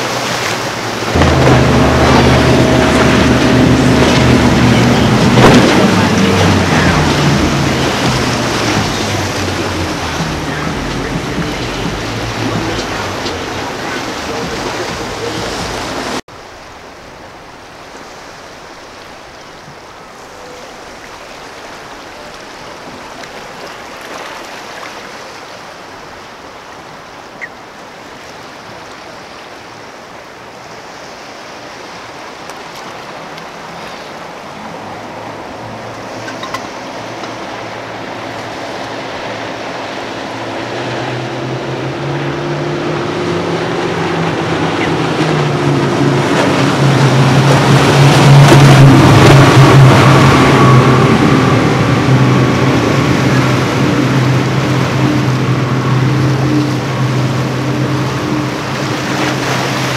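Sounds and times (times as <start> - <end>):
boat engine drone: 0.0 - 59.9
water wash: 0.0 - 59.9
wind: 0.0 - 59.9.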